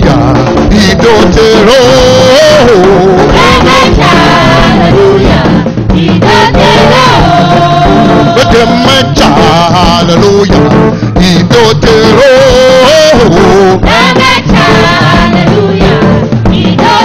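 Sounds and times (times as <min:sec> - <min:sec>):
band playing steady beat: 0:00.0 - 0:17.0
person singing: 0:00.0 - 0:17.0.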